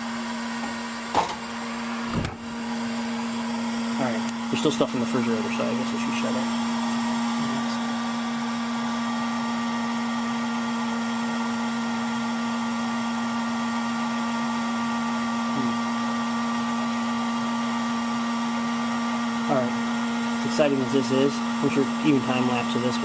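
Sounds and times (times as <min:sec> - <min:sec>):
heat gun blowing air: 0:00.0 - 0:23.0.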